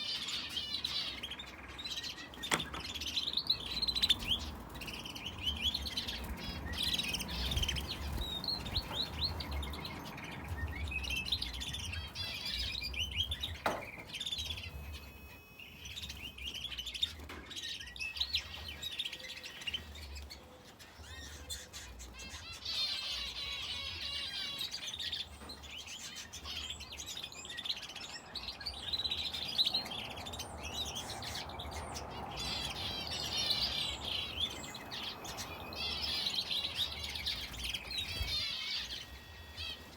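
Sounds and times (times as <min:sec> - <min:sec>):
finches and canary chirping: 0:00.0 - 0:39.9.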